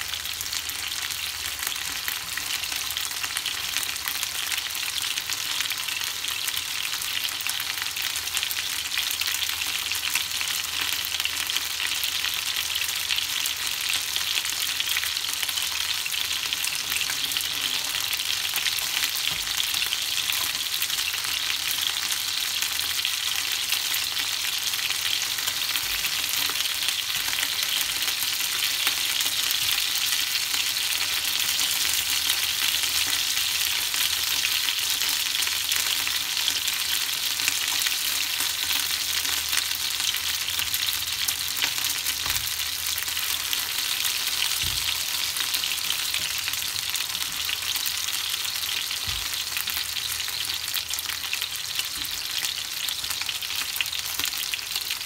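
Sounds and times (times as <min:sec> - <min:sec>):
chicken wings sizzling in frying pan: 0:00.0 - 0:55.0.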